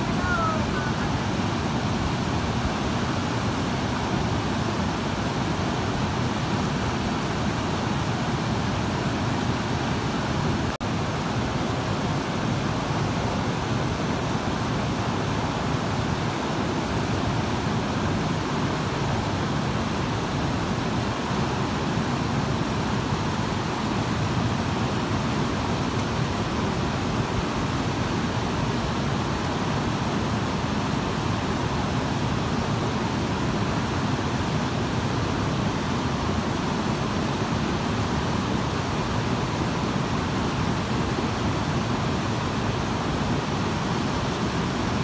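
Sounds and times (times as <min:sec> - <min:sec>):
river rapids rushing over boulders: 0:00.0 - 0:45.0.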